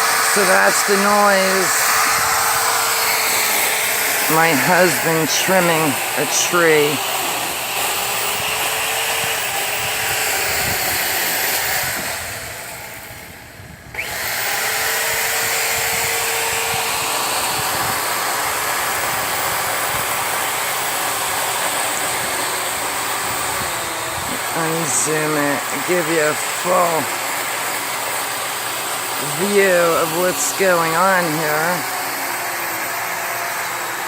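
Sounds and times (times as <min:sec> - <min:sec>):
power tool whirring: 0:00.0 - 0:34.0.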